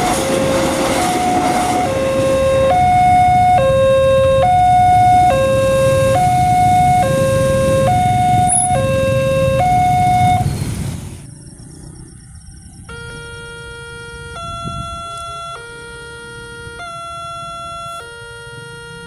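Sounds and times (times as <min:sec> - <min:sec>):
two-tone level crossing siren: 0:00.0 - 0:11.3, 0:11.9 - 0:19.0
electronic crossing warning siren: 0:00.0 - 0:19.0.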